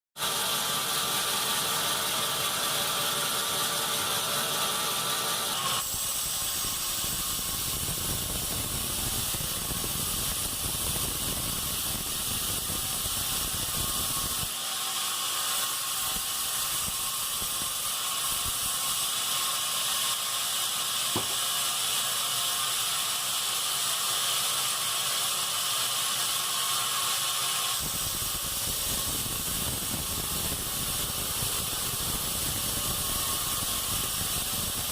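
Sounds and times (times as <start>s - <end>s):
bandsaw cutting logs: 0.2s - 34.9s.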